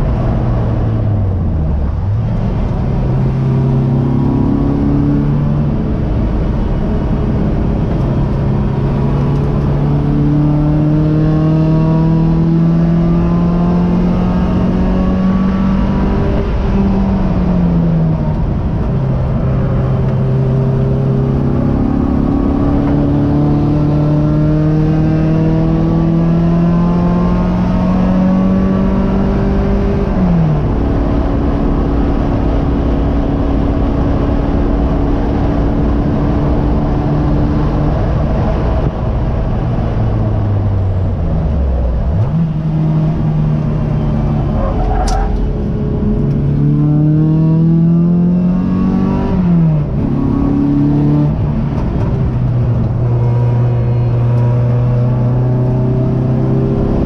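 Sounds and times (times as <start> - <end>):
race car engine accelerating: 0.0 - 57.0
road and tyre noise: 0.0 - 57.0.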